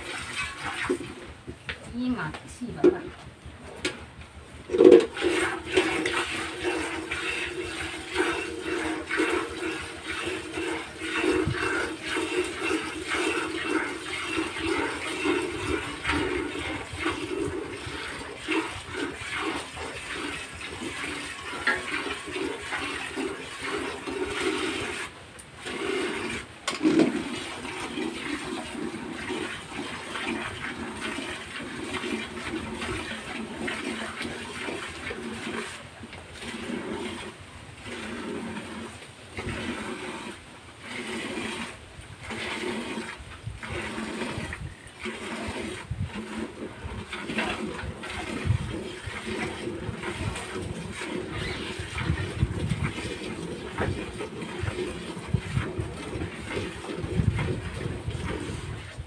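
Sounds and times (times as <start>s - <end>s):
milk squirting into metal bucket: 0.0s - 1.5s, 4.6s - 59.0s.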